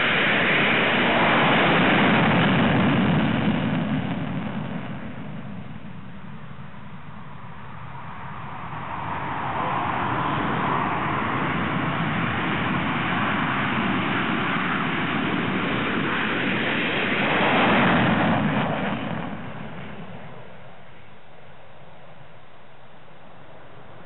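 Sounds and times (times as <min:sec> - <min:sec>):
jets taking off: 0:00.0 - 0:21.2.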